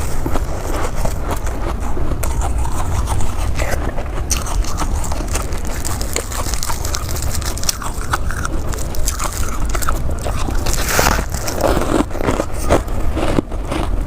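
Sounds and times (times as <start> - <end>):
chewing and crunching ice: 0.0 - 14.0.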